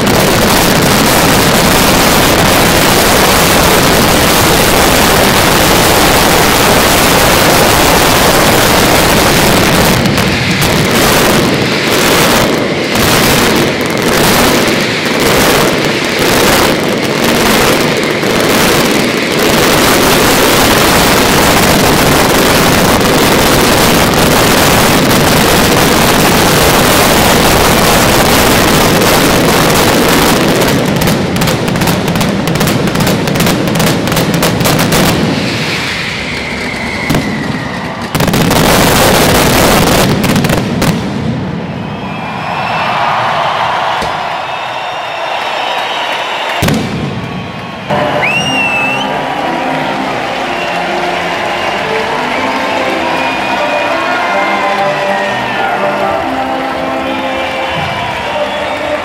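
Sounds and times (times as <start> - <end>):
firecrackers exploding: 0.0 - 59.0.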